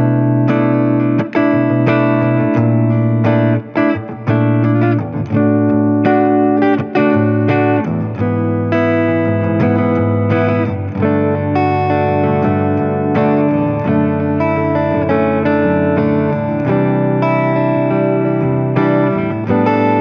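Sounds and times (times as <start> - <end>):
backing track bass line: 0.0 - 20.0
electric guitar notes and chords: 0.0 - 20.0.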